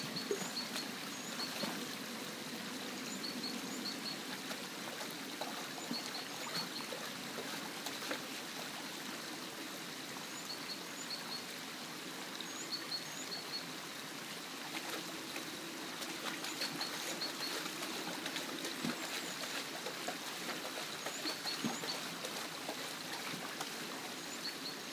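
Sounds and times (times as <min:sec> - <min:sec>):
stream water running: 0:00.0 - 0:24.9.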